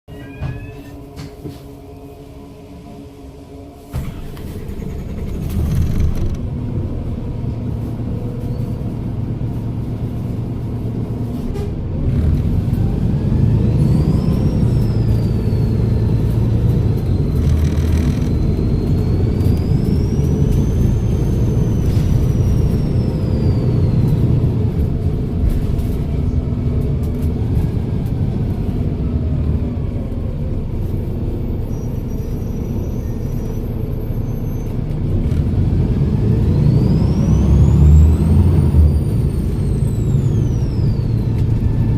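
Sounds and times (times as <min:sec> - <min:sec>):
bus diesel engine rumbling: 0:00.0 - 0:41.9.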